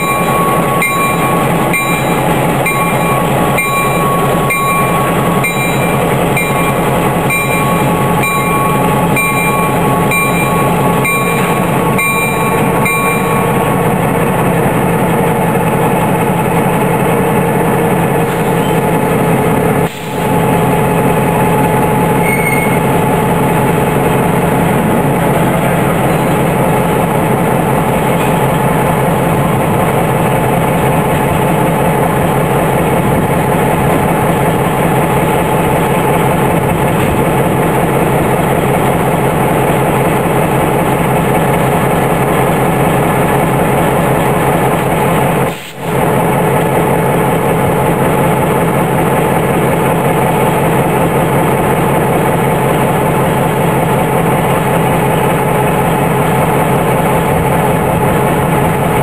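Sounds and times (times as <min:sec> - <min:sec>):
diesel locomotive engine running: 0:00.0 - 0:59.0.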